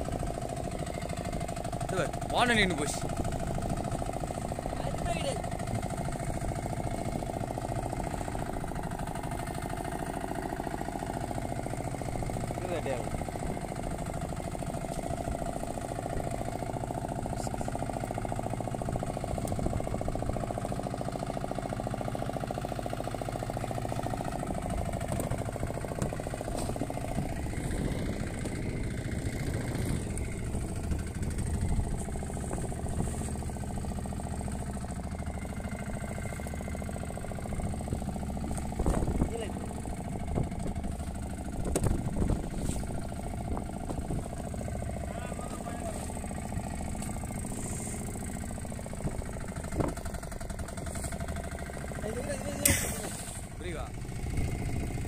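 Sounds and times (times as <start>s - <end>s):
boat engine idling: 0.0s - 55.0s.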